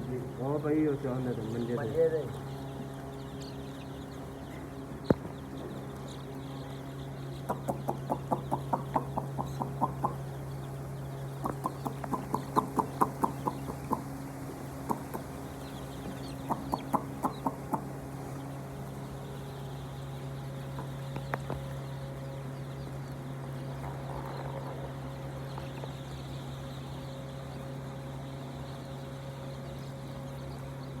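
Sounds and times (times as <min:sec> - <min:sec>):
hens clucking: 0:00.0 - 0:28.1
steady low hum: 0:00.0 - 0:31.0.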